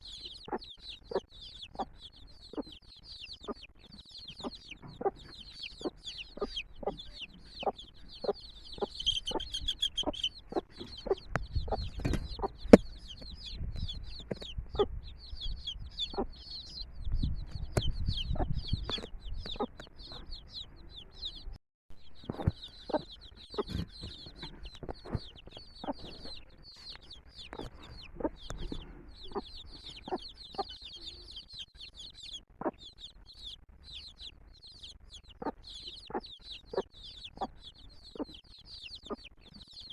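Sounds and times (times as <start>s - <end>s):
hen clucking: 0.0s - 21.6s, 22.2s - 39.9s
chicks peeping: 0.0s - 39.9s.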